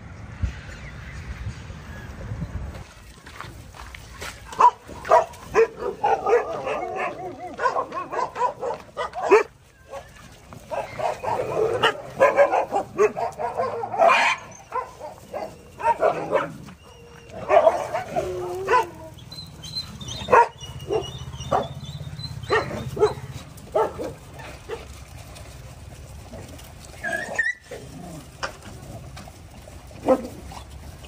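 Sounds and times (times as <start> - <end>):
dogs barking and yipping: 4.2 - 31.0.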